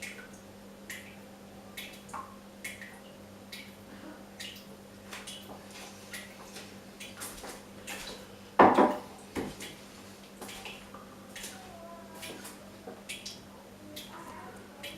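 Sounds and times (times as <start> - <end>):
water dripping from a tap: 0.0 - 6.4, 7.0 - 14.9.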